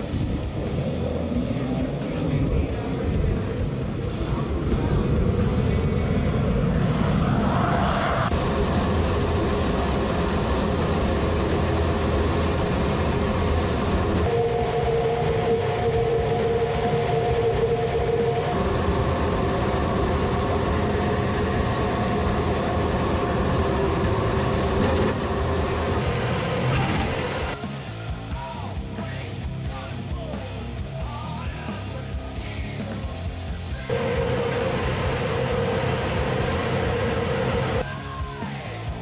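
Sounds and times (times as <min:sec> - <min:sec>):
jet engines rushing and whining: 0:00.0 - 0:27.9, 0:33.6 - 0:37.9.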